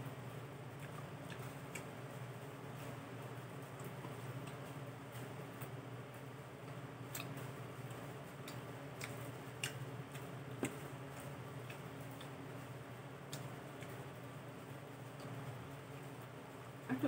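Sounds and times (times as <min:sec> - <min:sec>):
steady low hum: 0:00.0 - 0:17.0
quiet chewing: 0:00.6 - 0:05.8, 0:06.6 - 0:16.3.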